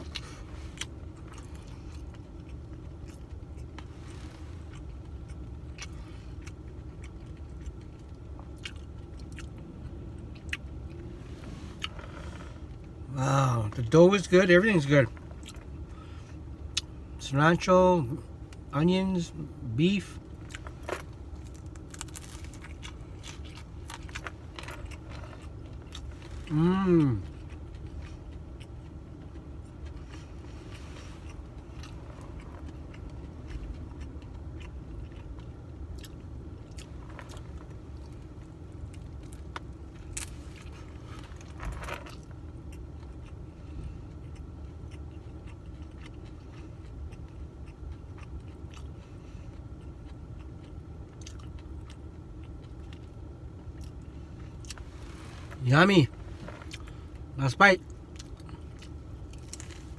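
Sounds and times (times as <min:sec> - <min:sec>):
low hum in car cabin: 0:00.0 - 0:59.9
person chewing crunchy pastry: 0:00.0 - 0:59.9.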